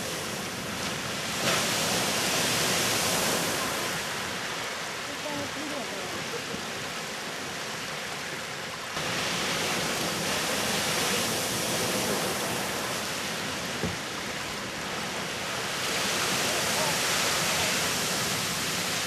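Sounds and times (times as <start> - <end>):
geyser hissing water and steam: 0.0 - 19.0.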